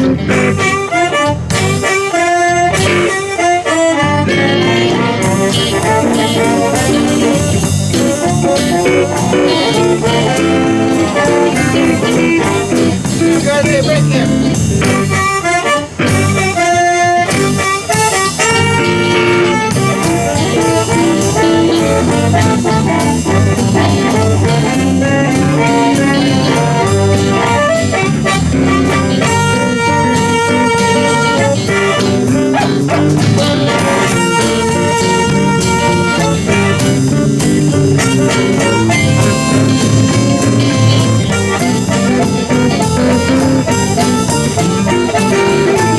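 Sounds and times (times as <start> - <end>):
blues band playing: 0.0 - 45.9
lead guitar holding long notes: 0.0 - 45.9.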